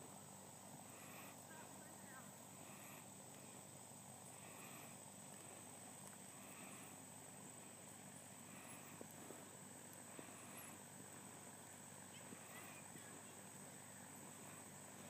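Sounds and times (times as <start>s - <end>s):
insect buzzing: 0.0s - 15.0s
faint ticks: 2.3s - 15.0s.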